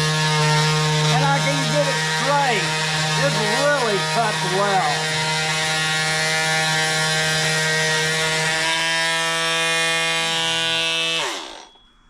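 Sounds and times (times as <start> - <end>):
oscillating multi-tool buzzing: 0.0 - 12.0.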